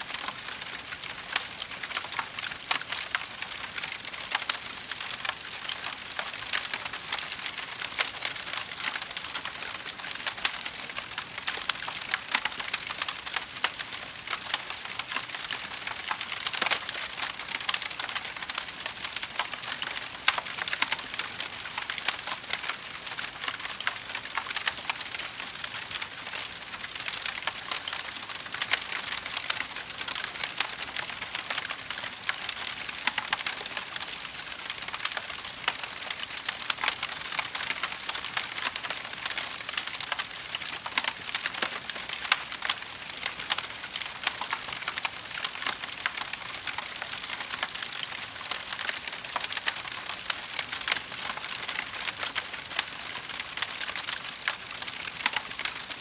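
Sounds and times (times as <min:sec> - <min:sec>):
fire crackling: 0:08.6 - 0:55.4.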